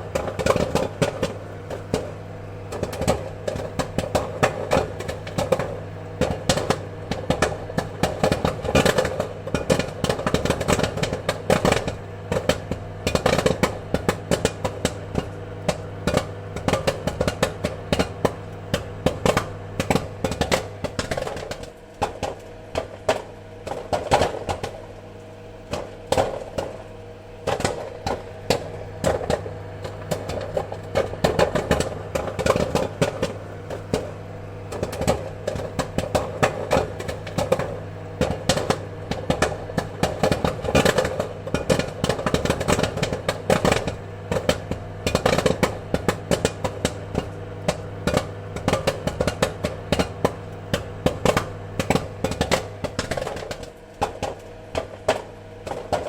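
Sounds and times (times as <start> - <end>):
popcorn popping: 0.0 - 56.0
steady hum: 0.0 - 56.0.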